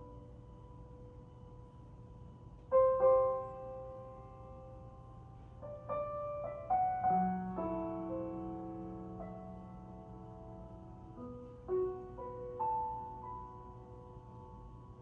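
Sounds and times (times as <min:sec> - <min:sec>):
piano ballad through speakers: 0:00.0 - 0:15.0.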